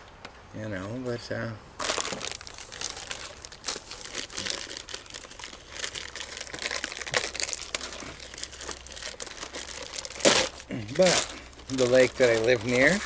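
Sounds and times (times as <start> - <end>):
plastic packaging crinkling: 1.8 - 13.0.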